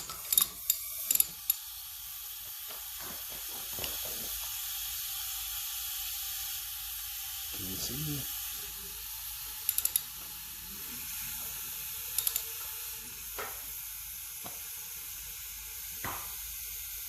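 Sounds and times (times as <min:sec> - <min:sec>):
compressed air hissing: 0:00.0 - 0:17.0.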